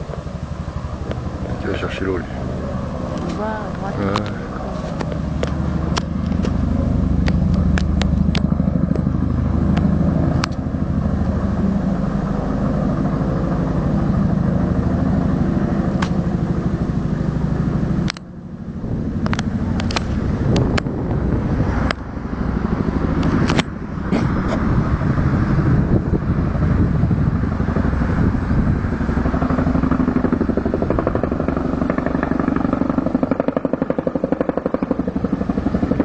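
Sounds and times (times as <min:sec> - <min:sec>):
engine low hum: 0:00.0 - 0:36.0.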